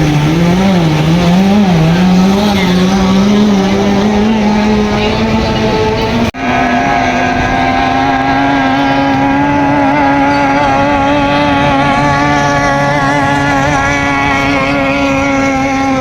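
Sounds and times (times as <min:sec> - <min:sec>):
outboard motor running hard: 0:00.0 - 0:16.0.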